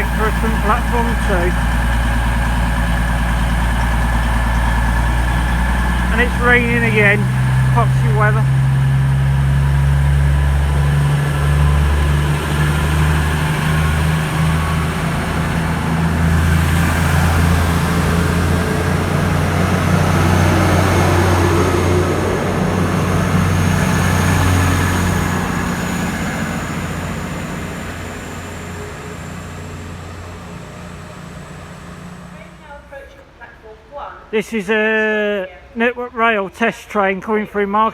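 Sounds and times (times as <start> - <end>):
train diesel engines running: 0.0 - 33.6.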